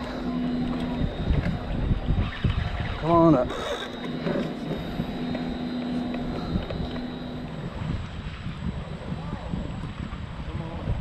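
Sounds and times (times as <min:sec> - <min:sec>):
steady low hum: 0:00.0 - 0:11.0
wind buffeting microphone: 0:00.0 - 0:11.0.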